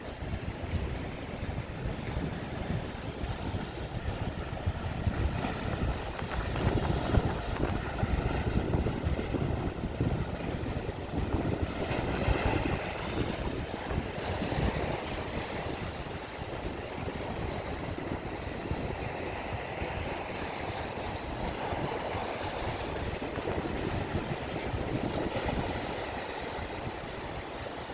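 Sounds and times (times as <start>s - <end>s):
waves breaking: 0.0s - 27.9s
wind buffeting microphone: 0.0s - 27.9s.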